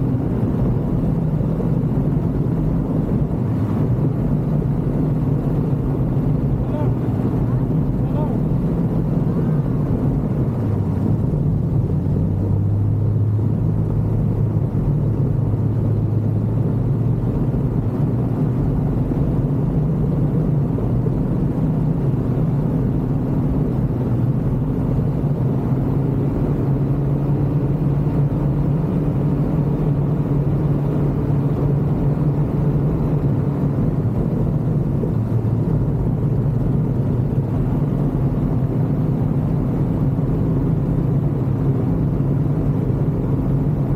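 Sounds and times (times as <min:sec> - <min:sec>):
ultralight aircraft engine droning: 0:00.0 - 0:43.9.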